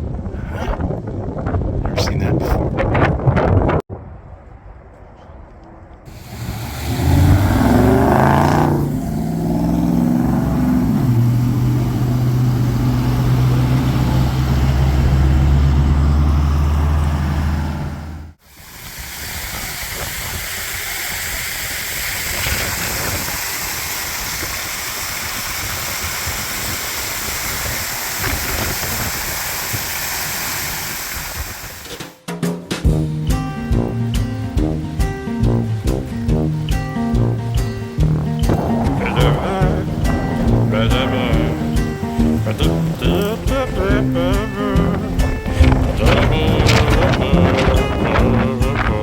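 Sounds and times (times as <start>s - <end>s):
wind noise: 0.0s - 17.4s, 18.4s - 32.0s, 33.6s - 49.0s.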